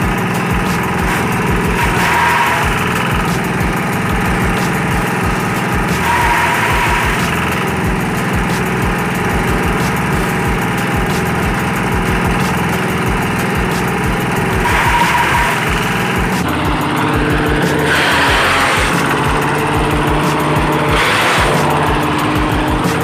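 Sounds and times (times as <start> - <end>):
chopper blades cutting stalks: 0.0 - 23.0
diesel engine running: 0.0 - 23.0.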